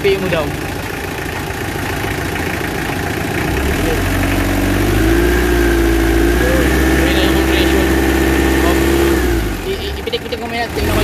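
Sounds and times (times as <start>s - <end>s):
diesel engine idling and revving: 0.0s - 11.0s.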